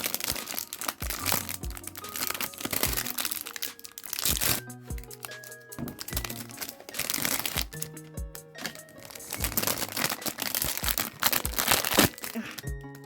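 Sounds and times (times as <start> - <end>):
plastic wrapping crinkling and tearing: 0.0 - 13.0.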